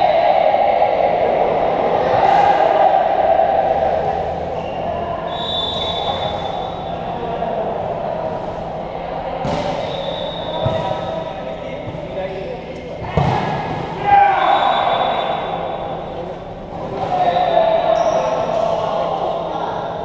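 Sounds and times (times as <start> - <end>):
voices echoing in sports hall: 0.0 - 20.0.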